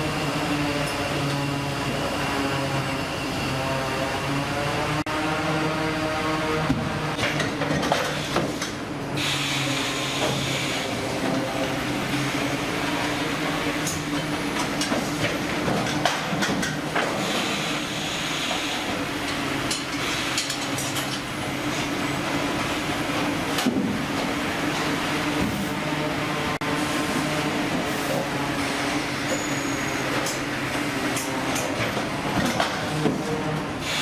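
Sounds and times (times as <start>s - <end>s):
engine and machinery drone: 0.0s - 34.0s.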